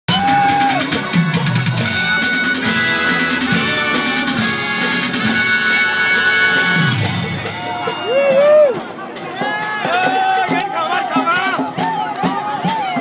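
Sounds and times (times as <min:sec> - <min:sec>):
dance music with plucked lines: 0:00.1 - 0:13.0.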